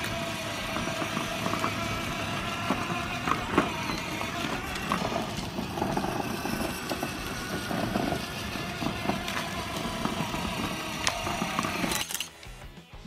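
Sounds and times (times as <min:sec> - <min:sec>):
small electric motor running: 0:00.0 - 0:12.3
plastic wheels rolling on pavement: 0:00.0 - 0:12.4.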